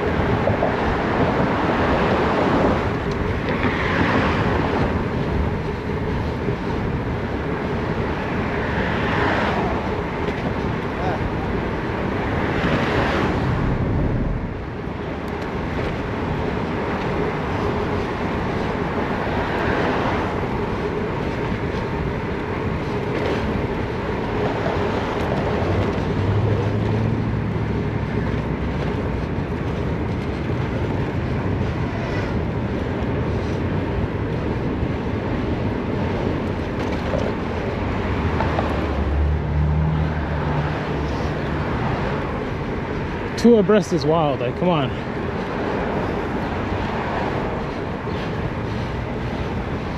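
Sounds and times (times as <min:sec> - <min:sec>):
wind on microphone: 0:00.0 - 0:43.5
traffic noise: 0:00.0 - 0:49.9.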